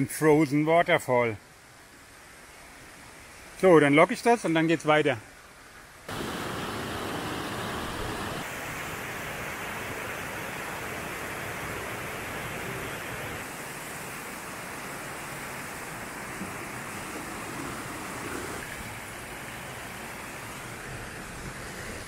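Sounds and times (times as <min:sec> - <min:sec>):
waterfall and rapids rushing: 0:00.0 - 0:22.0.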